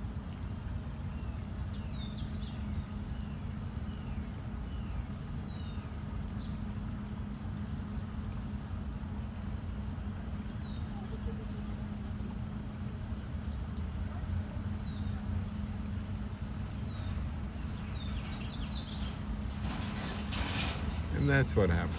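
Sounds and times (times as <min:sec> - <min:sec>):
constant hum: 0:00.0 - 0:21.9.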